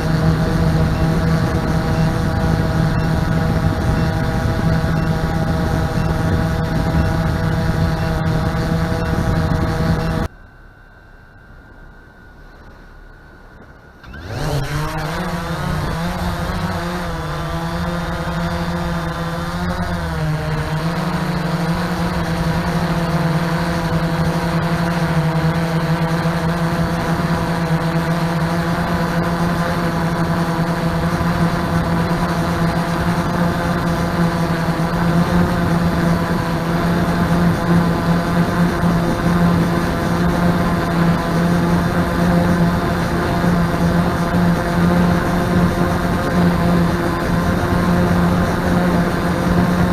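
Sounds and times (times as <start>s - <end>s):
drone propellers buzzing: 0.0s - 49.9s.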